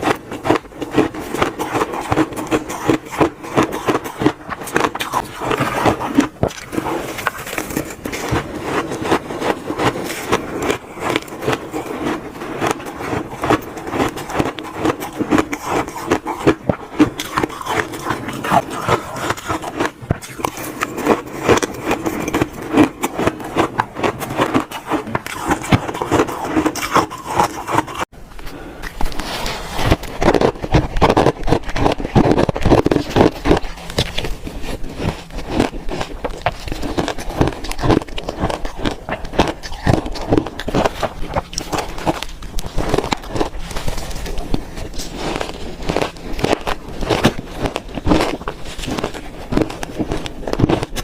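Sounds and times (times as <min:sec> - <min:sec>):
ice being crunched and chewed: 0:00.0 - 0:51.0.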